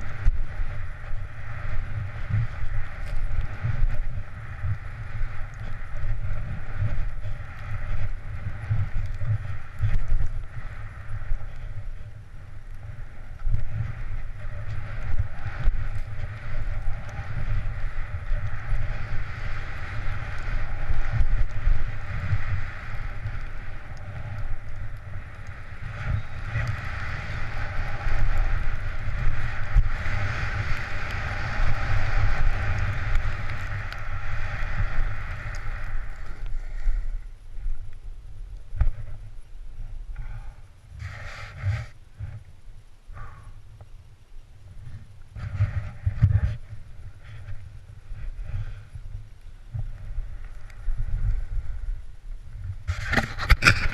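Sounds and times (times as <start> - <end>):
skis running over snow: 0.0 - 37.9, 40.2 - 42.4, 44.8 - 53.9
wind rushing over microphone: 0.0 - 53.9.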